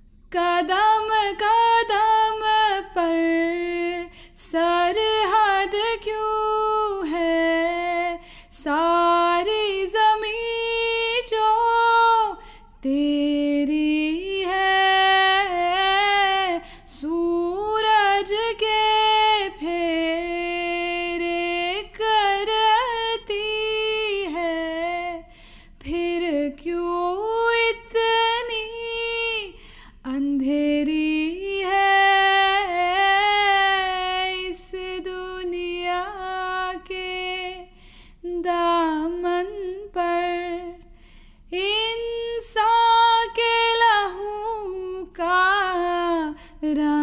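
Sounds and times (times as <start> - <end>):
woman singing unaccompanied: 0.3 - 40.8, 41.5 - 47.0.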